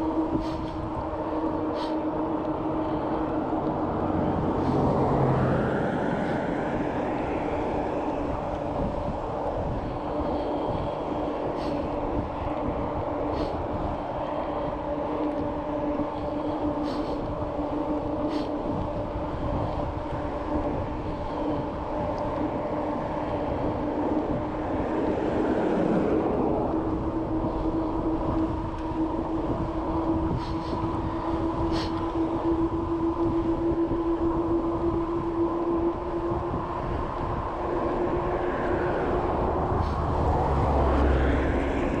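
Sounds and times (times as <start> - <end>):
droning hum: 0.0 - 42.0
wind and road rumble: 0.0 - 42.0.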